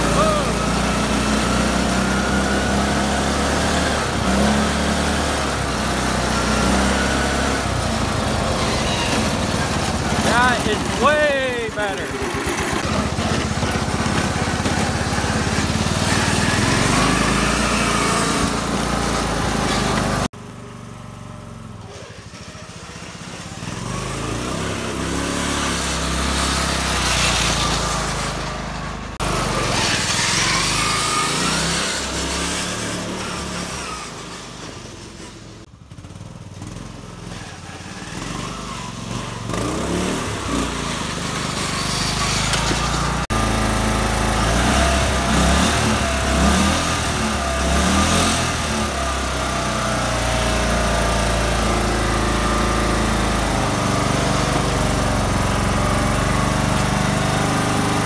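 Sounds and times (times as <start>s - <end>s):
riding lawn mower engine running hard: 0.0s - 58.0s.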